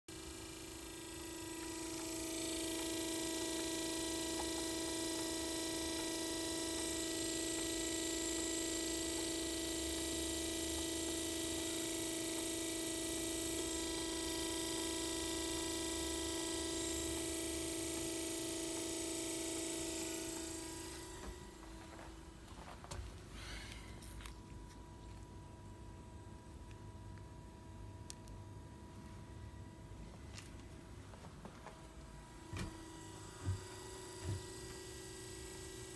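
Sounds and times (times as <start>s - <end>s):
blower motor humming: 0.1s - 27.6s, 28.2s - 35.9s.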